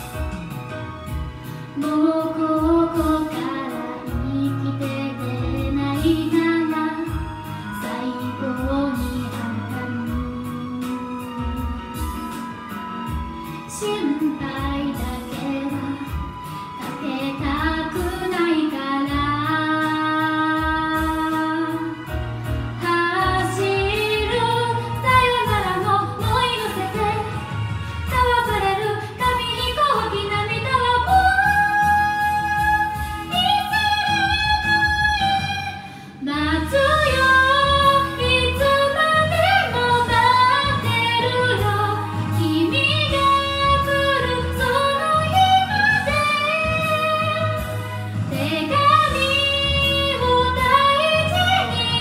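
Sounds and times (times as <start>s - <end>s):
karaoke backing track: 0.0s - 52.0s
woman singing pop song: 0.0s - 52.0s.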